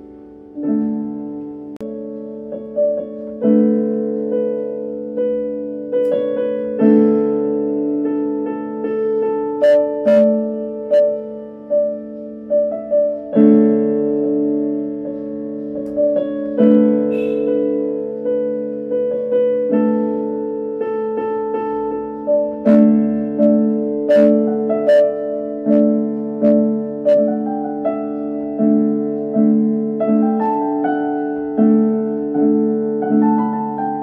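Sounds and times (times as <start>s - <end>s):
slow keyboard melody: 0.0s - 34.0s.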